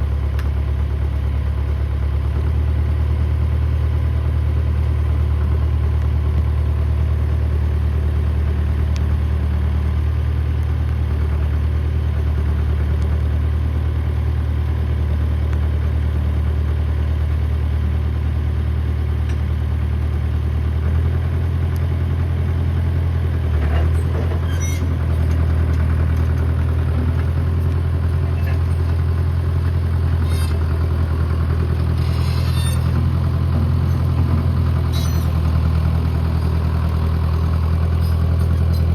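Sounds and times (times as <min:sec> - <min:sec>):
heavy machine engine idling: 0:00.0 - 0:38.9.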